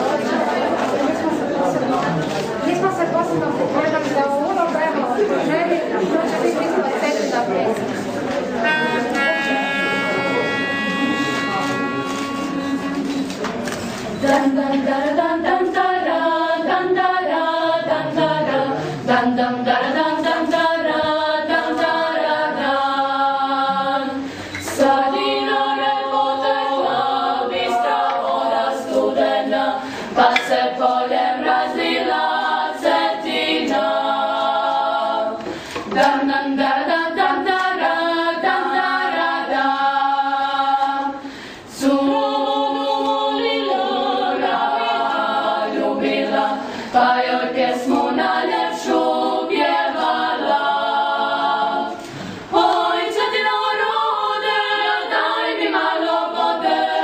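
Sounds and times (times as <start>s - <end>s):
a cappella group singing in harmony: 8.6s - 57.0s.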